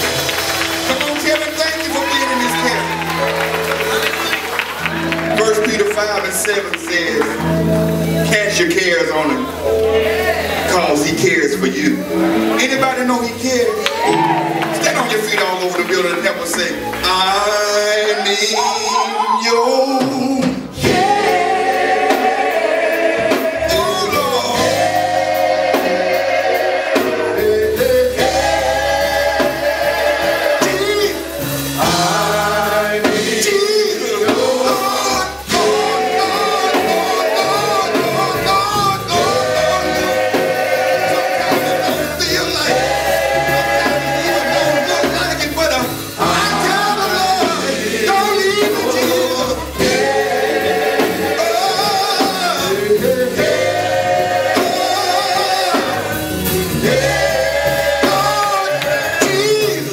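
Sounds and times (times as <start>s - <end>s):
band with held bass line: 0.0s - 59.9s
voices singing gospel: 0.0s - 59.9s.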